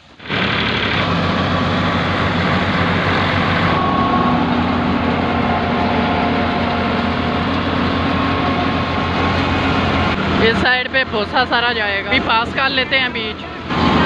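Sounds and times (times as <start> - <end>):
threshing machine running: 0.0 - 14.0.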